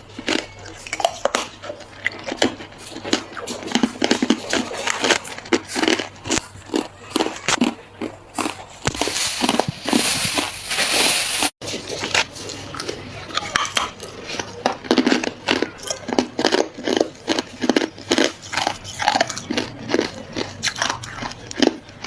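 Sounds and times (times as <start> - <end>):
ice crunching while chewed: 0.0 - 22.0.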